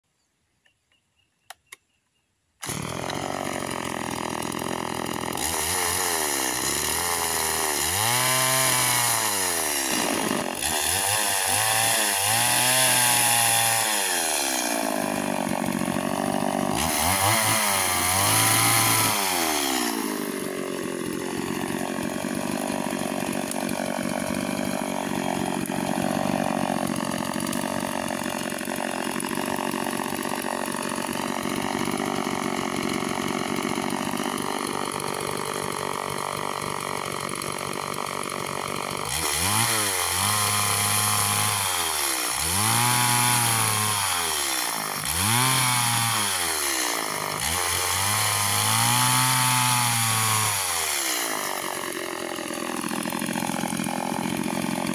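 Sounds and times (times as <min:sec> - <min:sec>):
chainsaw cutting a stump: 0:02.6 - 0:54.9.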